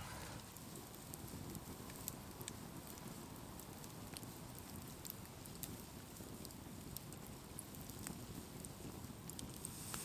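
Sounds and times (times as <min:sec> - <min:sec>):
coals ticking and popping: 0:00.0 - 0:10.0
low steady background noise: 0:00.0 - 0:10.0.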